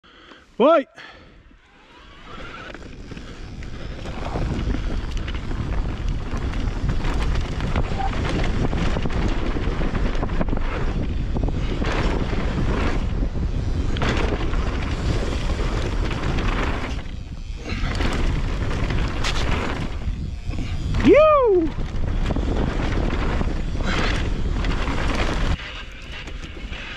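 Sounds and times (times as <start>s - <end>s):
wind buffeting microphone: 1.5s - 26.9s
tyres on loose dirt: 1.7s - 26.9s
bike knocking and rattling: 1.9s - 26.9s.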